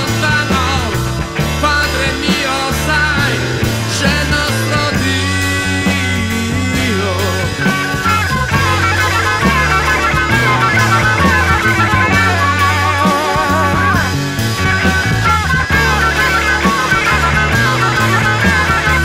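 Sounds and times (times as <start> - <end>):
instrumental rock band: 0.0 - 19.0
loud bass line: 0.0 - 19.0.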